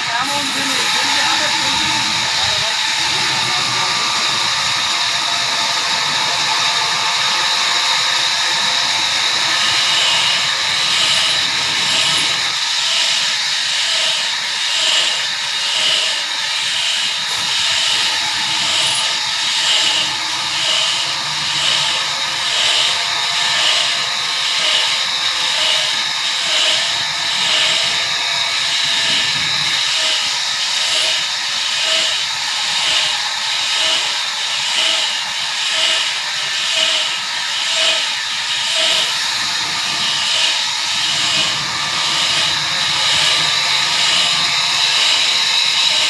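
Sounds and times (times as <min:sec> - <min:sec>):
sawmill saw cutting log: 0:00.0 - 0:46.0.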